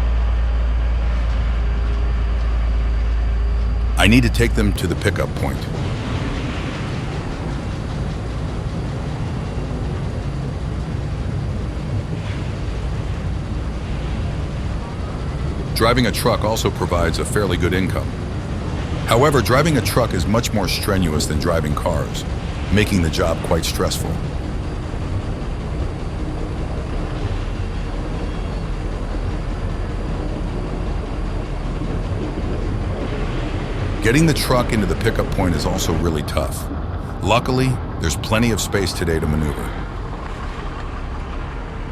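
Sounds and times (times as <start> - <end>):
road noise: 0.0 - 41.9
truck engine running: 0.0 - 41.9.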